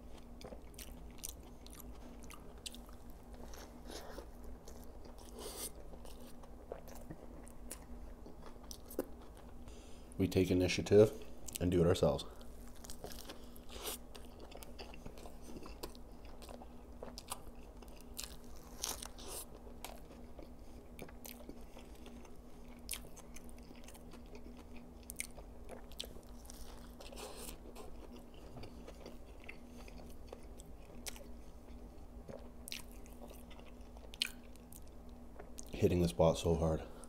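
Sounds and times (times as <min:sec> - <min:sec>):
chewing a burger: 0:00.0 - 0:10.2, 0:11.2 - 0:35.8
faint steady hum: 0:00.0 - 0:37.0.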